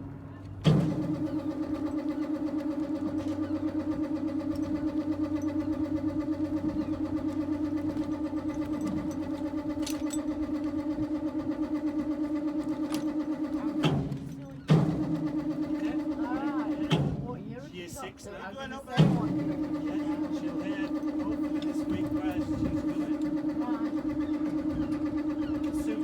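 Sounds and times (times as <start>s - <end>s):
motor humming and throbbing: 0.0s - 26.0s.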